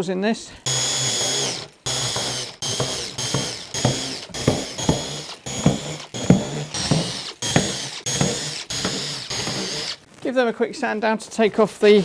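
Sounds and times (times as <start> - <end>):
drill bit rattling: 0.5 - 10.1, 11.4 - 12.0
electric drill whining: 0.5 - 10.1, 11.7 - 12.0.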